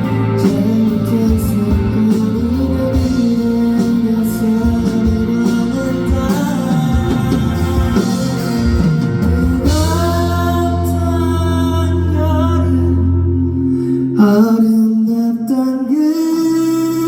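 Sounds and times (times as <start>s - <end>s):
sustained chord: 0.0s - 15.3s
bass: 0.0s - 17.0s
guitar: 0.0s - 17.0s
person singing: 0.0s - 17.0s.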